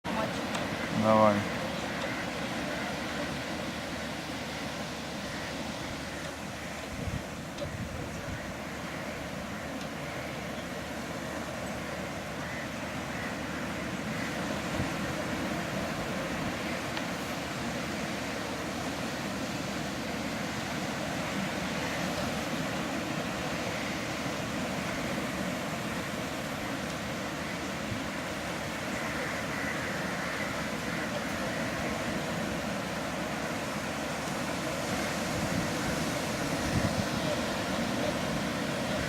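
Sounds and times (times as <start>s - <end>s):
sea surf: 0.0s - 39.0s
wind: 0.0s - 39.0s.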